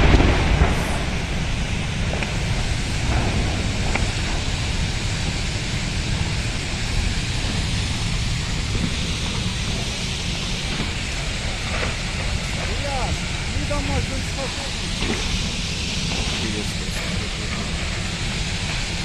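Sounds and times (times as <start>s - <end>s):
loud low rumble: 0.0s - 19.0s
outdoor rushing noise: 0.0s - 19.0s
wind buffeting microphone: 0.0s - 19.0s.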